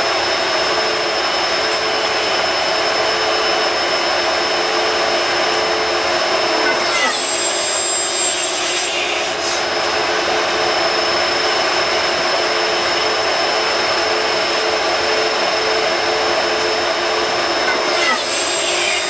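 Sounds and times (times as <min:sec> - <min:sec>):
constant whine: 0:00.0 - 0:19.0
dust extraction: 0:00.0 - 0:19.0
power tool motors droning: 0:00.0 - 0:19.0.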